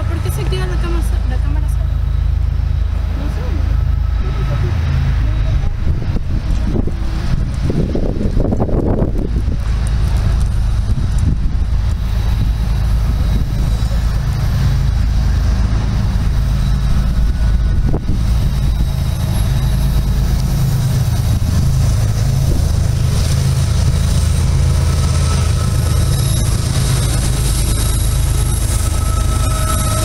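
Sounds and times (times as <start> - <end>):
diesel locomotive engine rumble: 0.0 - 30.0.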